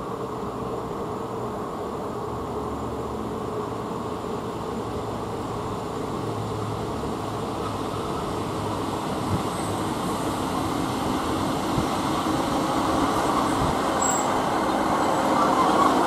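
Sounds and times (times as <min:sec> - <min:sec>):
diesel train engines humming: 0:00.0 - 0:16.0
train wheels rumbling on rails: 0:00.0 - 0:16.0.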